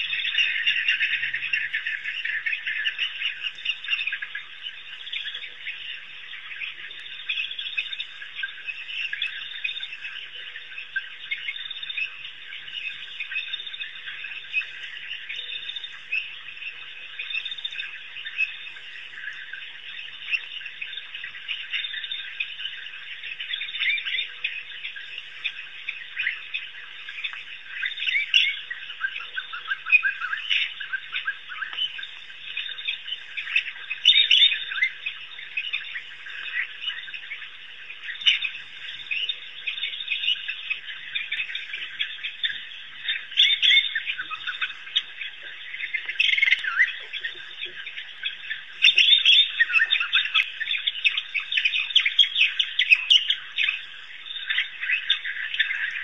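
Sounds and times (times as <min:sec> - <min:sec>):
wild dogs twittering: 0:00.0 - 0:56.0.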